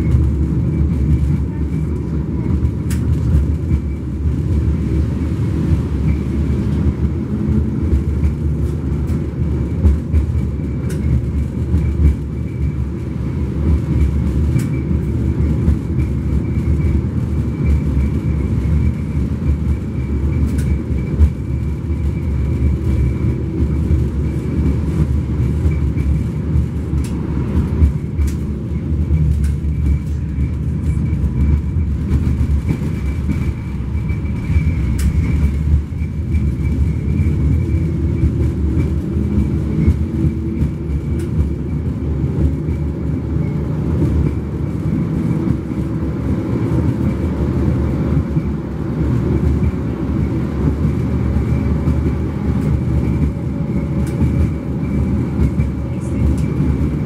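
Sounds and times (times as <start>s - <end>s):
tram wheels rumbling: 0.0s - 57.0s.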